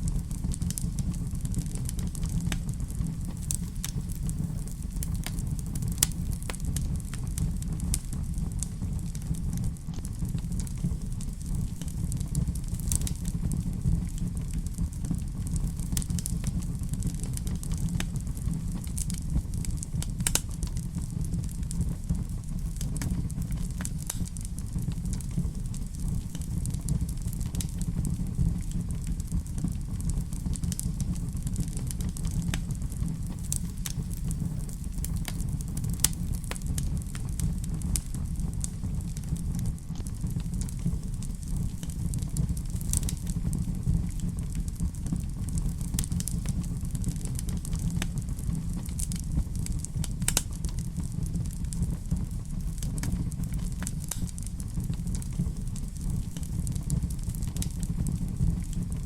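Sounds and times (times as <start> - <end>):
fireplace fire crackling: 0.0 - 59.0.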